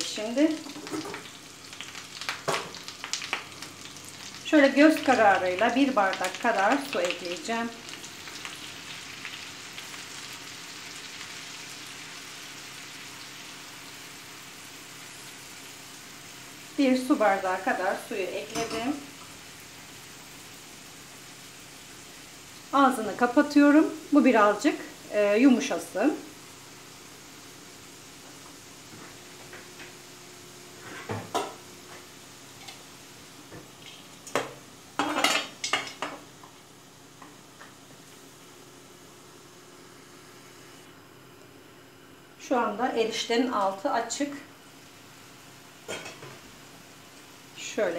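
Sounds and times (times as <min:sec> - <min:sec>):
water sizzling in hot fat: 0:00.0 - 0:47.9.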